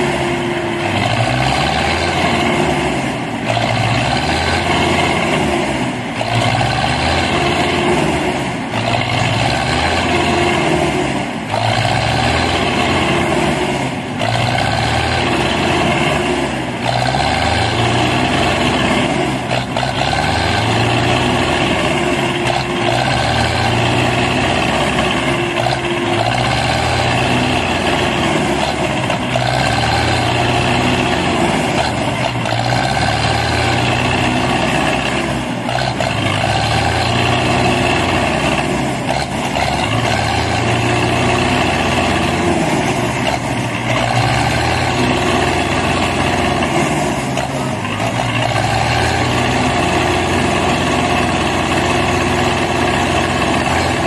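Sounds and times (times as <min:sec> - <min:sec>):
tractor diesel engines under load: 0:00.0 - 0:54.0.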